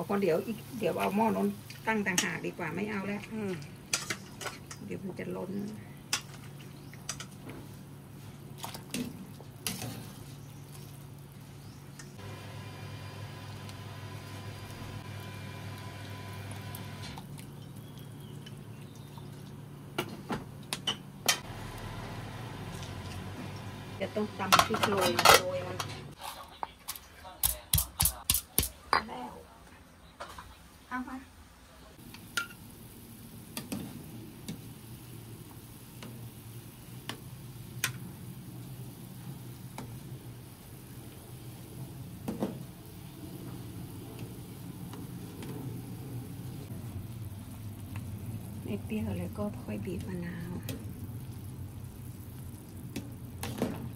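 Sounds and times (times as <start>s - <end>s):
soup boiling in a pot: 0.0s - 20.8s, 21.4s - 24.5s, 32.0s - 53.9s.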